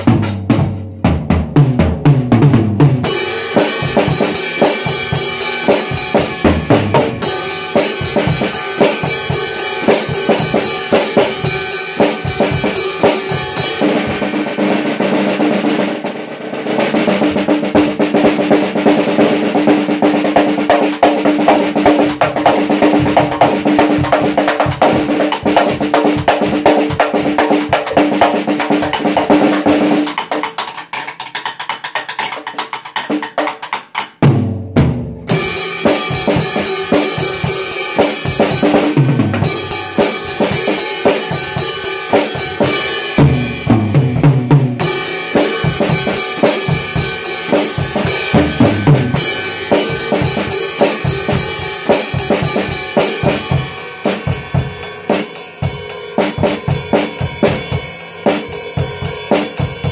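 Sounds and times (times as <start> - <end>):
drum kit played fast: 0.0 - 59.9.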